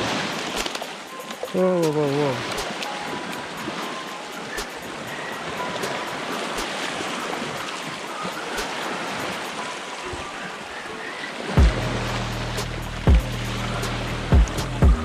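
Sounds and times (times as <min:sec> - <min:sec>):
sea waves washing over rocks: 0:00.0 - 0:15.0.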